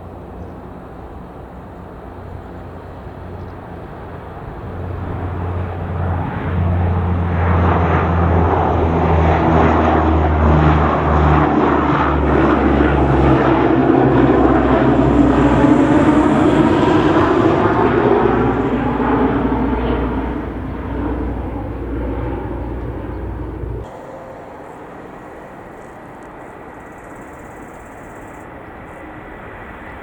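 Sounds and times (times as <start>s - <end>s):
cargo aircraft engines droning: 0.0s - 30.0s.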